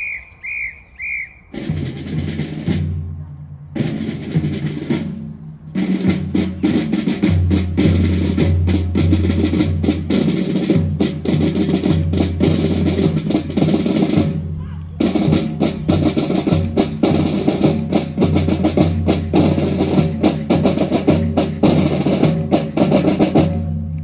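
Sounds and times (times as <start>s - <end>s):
snare drum roll: 1.6s - 3.0s, 3.8s - 5.2s, 5.8s - 23.8s.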